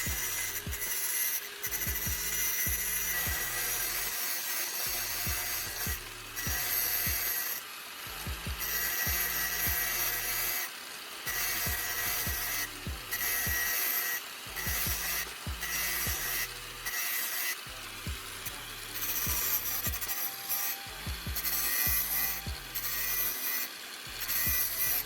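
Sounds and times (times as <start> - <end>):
angle grinder grinding steel: 0.0 - 25.0.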